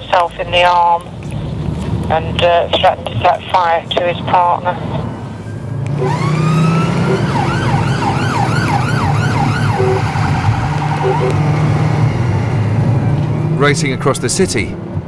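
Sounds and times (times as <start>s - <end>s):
car engine drone: 0.0s - 15.0s
police siren wailing: 2.1s - 14.8s.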